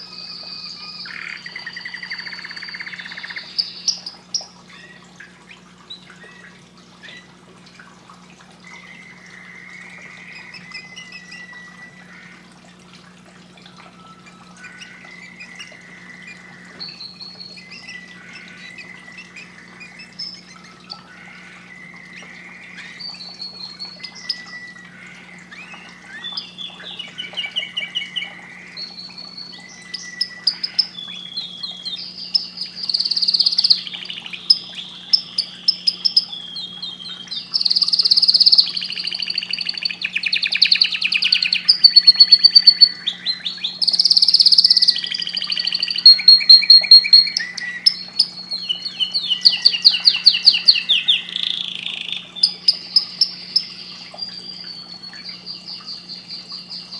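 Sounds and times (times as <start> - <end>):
canary singing trills: 0.0 - 7.4, 8.6 - 12.5, 13.6 - 56.9
steady low hum: 0.0 - 56.9.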